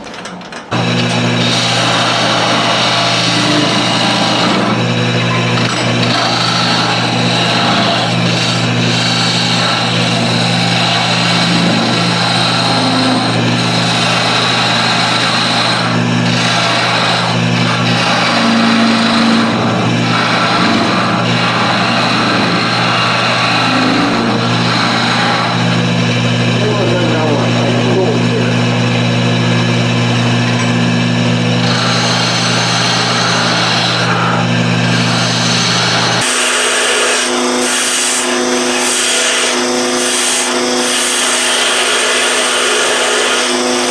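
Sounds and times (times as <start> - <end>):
wood lathe hum: 0.0 - 43.9
turning tool cutting wood: 0.6 - 43.9.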